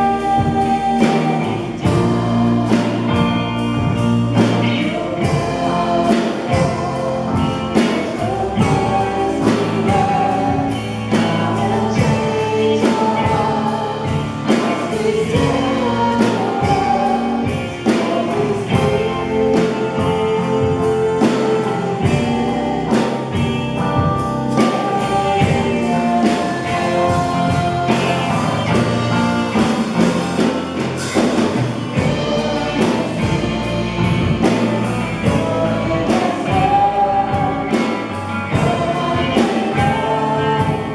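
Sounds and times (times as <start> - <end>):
band with steady drum beat: 0.0 - 40.9
people singing: 0.0 - 40.9.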